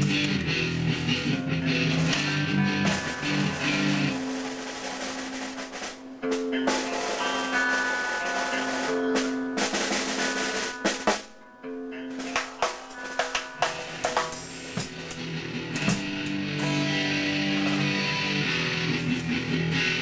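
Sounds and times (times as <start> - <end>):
drum kit playing: 0.0 - 20.0
electric guitar chords: 0.0 - 20.0.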